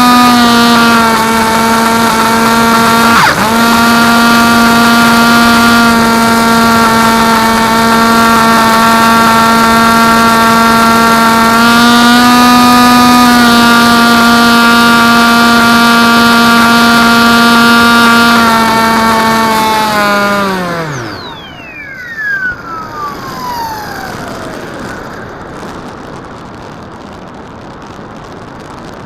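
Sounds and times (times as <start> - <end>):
drone motors whining: 0.0 - 26.6.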